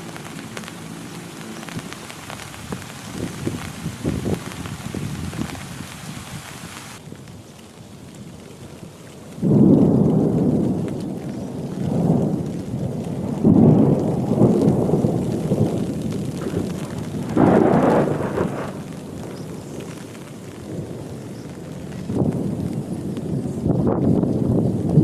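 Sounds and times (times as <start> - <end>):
thunder rumbling: 0.0 - 7.0, 9.4 - 25.0
heavy rain: 0.0 - 25.0.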